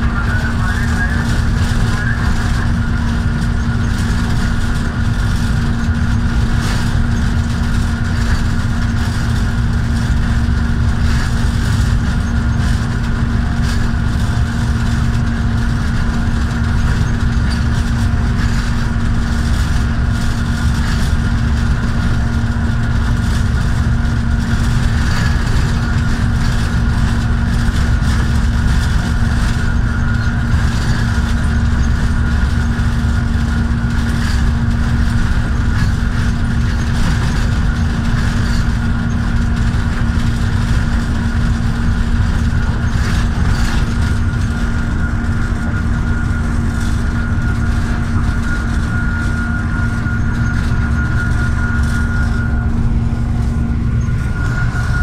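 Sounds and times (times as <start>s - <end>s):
locomotive engine drone: 0.0s - 55.0s
train rumbling on rails: 0.0s - 55.0s.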